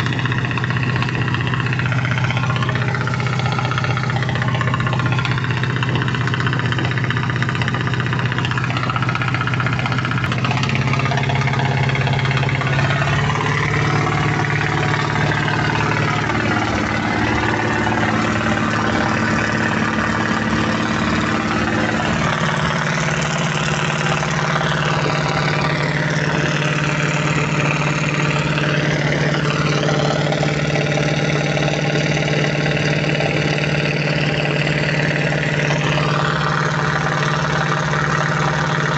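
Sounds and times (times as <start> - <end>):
boat diesel engine running: 0.0 - 38.9.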